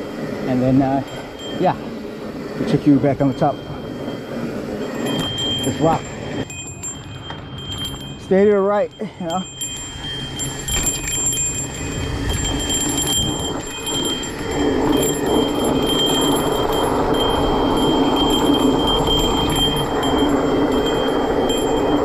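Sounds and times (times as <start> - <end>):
bike tyre rumble: 0.0 - 8.8, 9.4 - 22.0
high-pitched ringing: 0.0 - 22.0
wind noise: 0.0 - 22.0.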